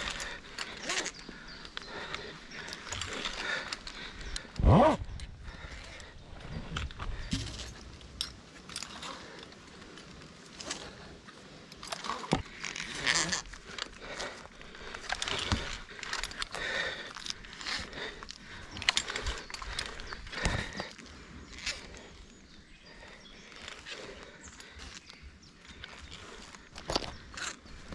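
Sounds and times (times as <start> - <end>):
carabiners clinking and scraping: 0.0 - 22.3, 22.9 - 27.9.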